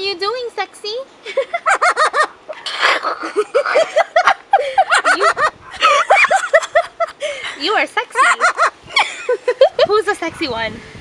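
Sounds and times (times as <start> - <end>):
parrot giggling: 1.2 - 10.2.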